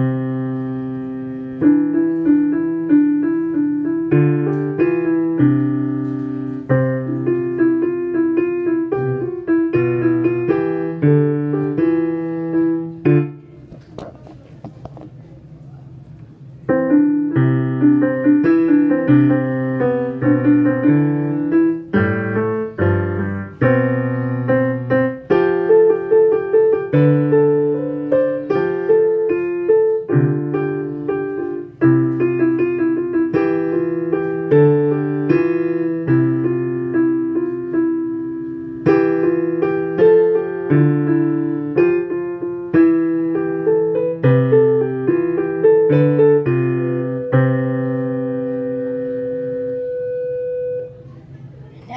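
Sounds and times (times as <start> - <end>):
piano chords and bass notes: 0.0 - 14.0, 16.4 - 51.9.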